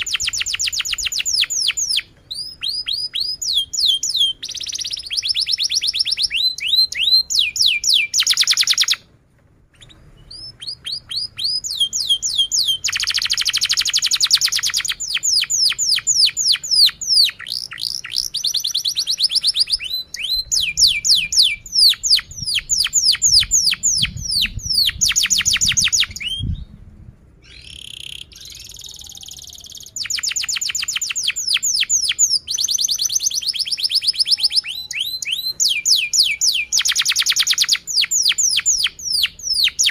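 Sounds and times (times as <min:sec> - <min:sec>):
canary singing fast trills: 0:00.0 - 0:09.0, 0:09.7 - 0:26.7, 0:27.4 - 0:39.9.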